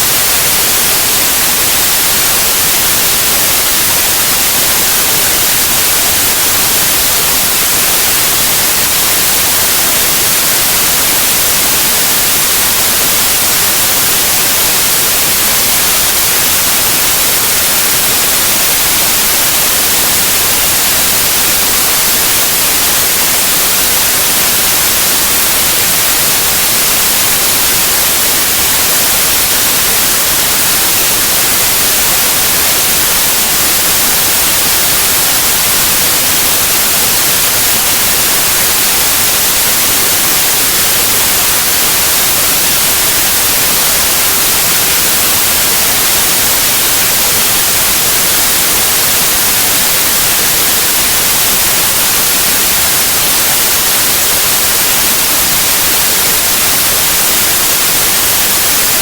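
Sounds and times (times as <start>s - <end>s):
loud white noise hiss: 0.0s - 59.0s.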